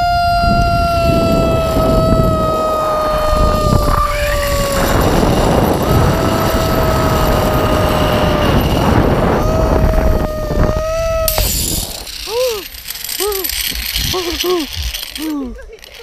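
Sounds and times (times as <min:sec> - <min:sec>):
wind on microphone: 0:00.0 - 0:15.6
zip-line pulleys whining on cable: 0:00.0 - 0:16.0.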